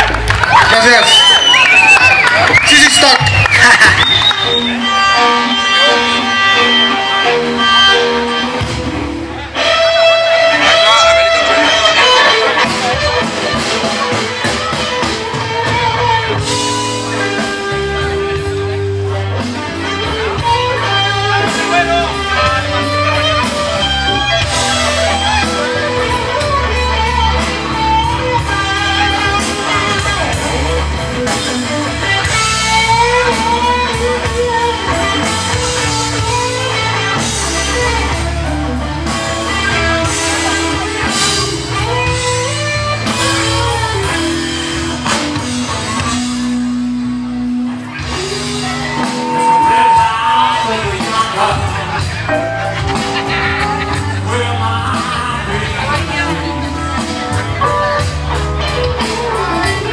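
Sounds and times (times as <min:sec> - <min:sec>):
electric guitar lines: 0:00.0 - 0:59.9
live rock band playing: 0:00.0 - 0:59.9.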